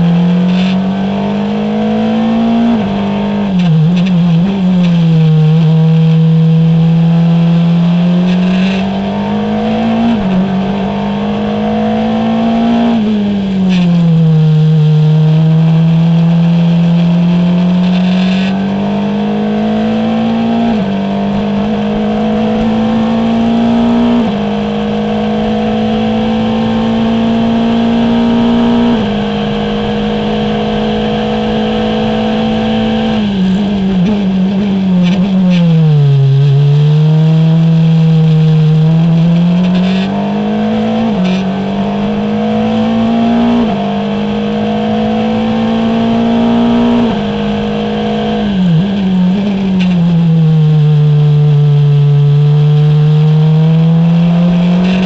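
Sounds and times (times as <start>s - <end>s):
racing car engine accelerating: 0.0s - 55.0s.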